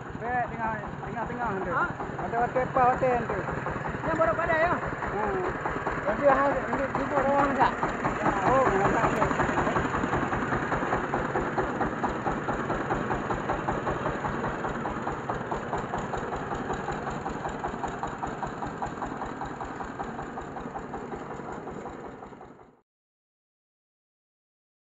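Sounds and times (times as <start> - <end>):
diesel engine running: 0.0 - 22.8.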